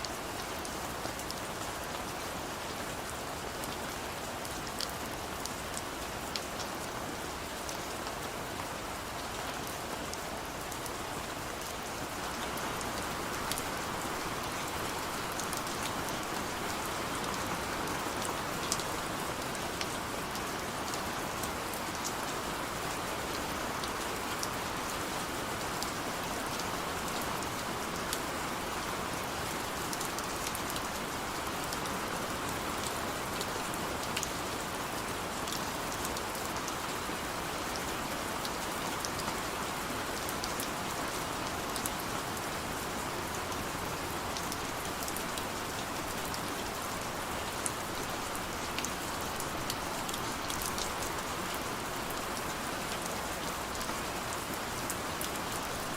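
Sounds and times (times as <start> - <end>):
heavy rain pattering: 0.0 - 55.9.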